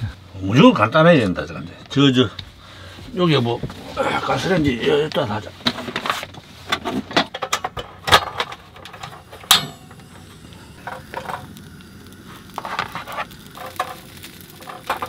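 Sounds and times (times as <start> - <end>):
gas burner flame hissing: 0.0 - 15.0
soft crackles of toasting fish: 1.1 - 6.6, 7.8 - 15.0.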